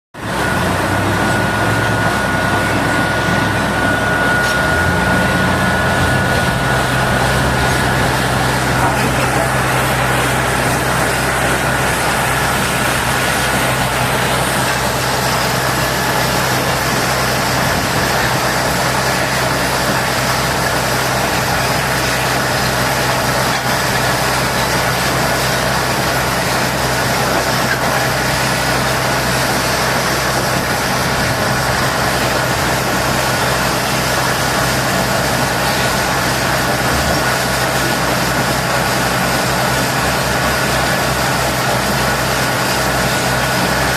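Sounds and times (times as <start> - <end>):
engine idling: 0.2 - 43.9.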